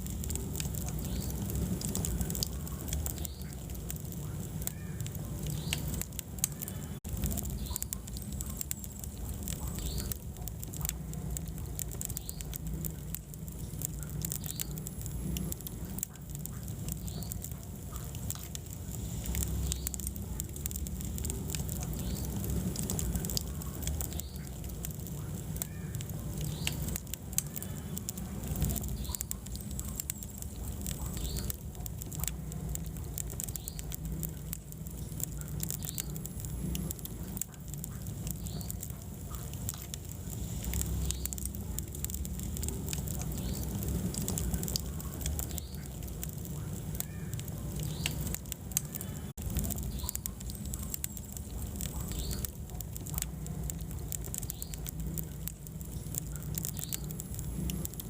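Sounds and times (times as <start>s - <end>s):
low rumble of flames: 0.0s - 58.0s
sharp pops: 0.0s - 58.0s
wood fire crackling: 0.0s - 58.0s.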